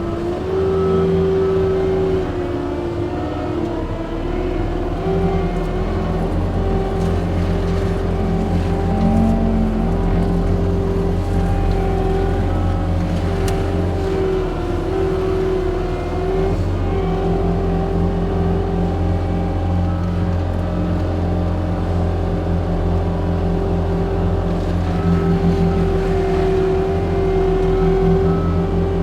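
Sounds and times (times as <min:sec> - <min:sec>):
diesel engine drone: 0:00.0 - 0:29.0
mulcher head whining: 0:00.0 - 0:29.0.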